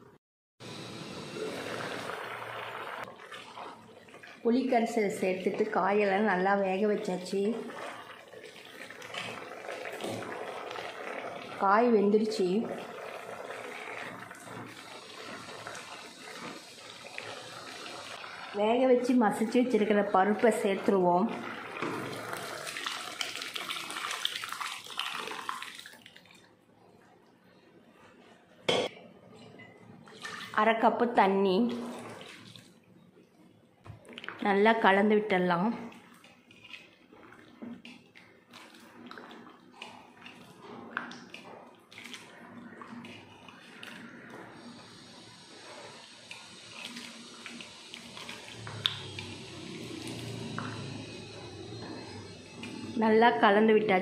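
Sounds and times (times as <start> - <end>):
pot boiling and bubbling: 0.6 - 33.2, 33.9 - 54.0.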